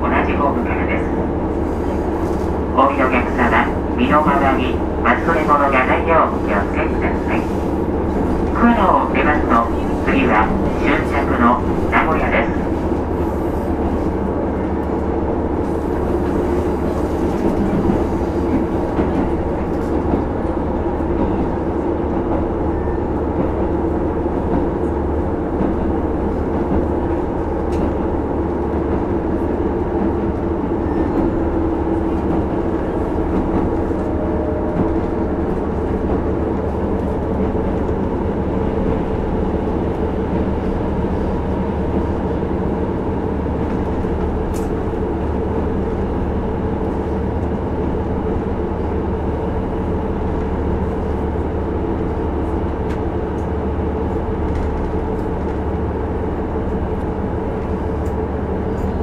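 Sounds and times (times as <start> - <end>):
diesel railcar engine drone: 0.0 - 59.0.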